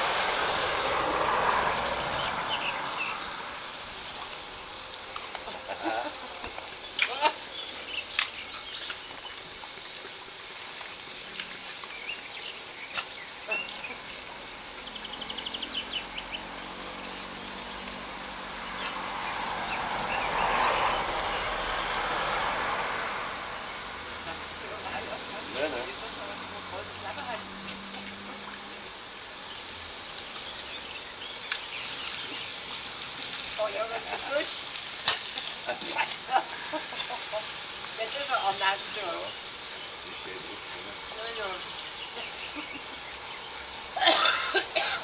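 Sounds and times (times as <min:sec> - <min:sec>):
sprinkler water splashing on concrete: 0:00.0 - 0:45.0.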